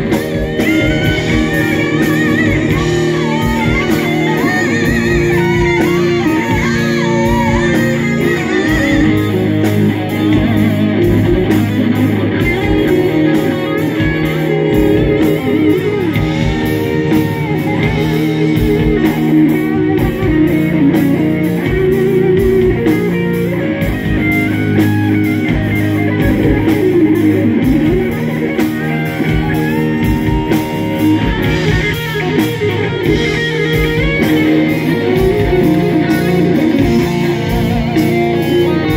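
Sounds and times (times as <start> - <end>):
bass guitar: 0.0 - 38.9
distorted electric guitars: 0.0 - 38.9
steady drum beat: 0.0 - 38.9.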